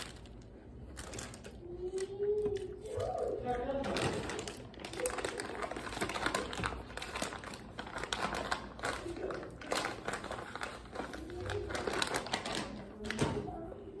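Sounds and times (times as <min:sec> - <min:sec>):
plastic tissue packet crinkling: 0:00.0 - 0:14.0.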